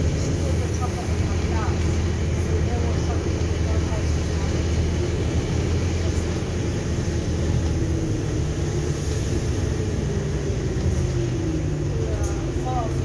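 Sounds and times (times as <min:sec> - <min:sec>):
diesel bus engine drone: 0:00.0 - 0:13.0.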